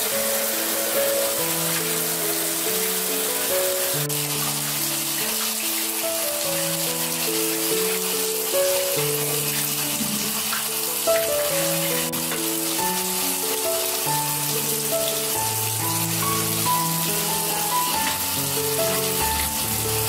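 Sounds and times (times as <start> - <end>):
slow melody of held notes: 0.0 - 20.0
steady hiss: 0.0 - 20.0.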